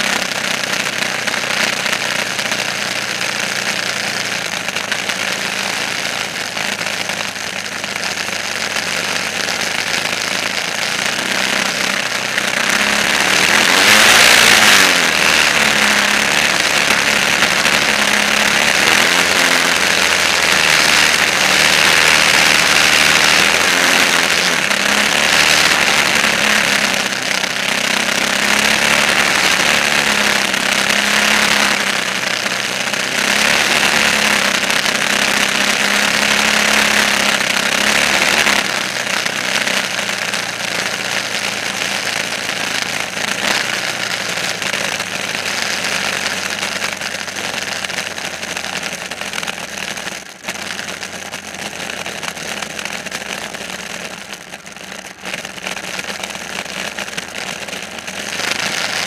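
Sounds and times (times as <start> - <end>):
engine running loudly: 0.0 - 59.0.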